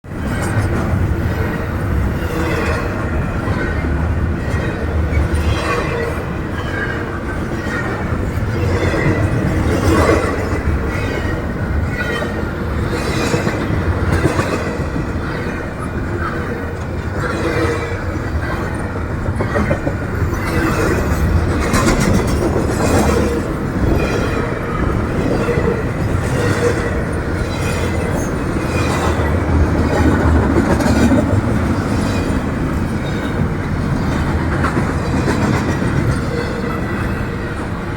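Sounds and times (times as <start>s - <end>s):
train rumbling past: 0.0s - 37.9s
wheels clattering on rails: 0.1s - 37.9s.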